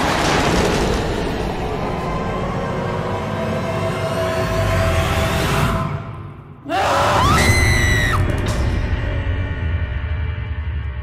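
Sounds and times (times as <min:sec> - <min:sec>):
dark horror music: 0:00.0 - 0:11.0.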